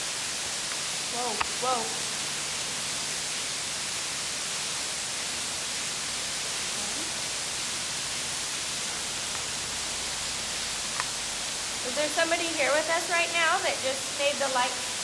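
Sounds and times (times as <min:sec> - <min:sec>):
microphone hiss: 0:00.0 - 0:15.0.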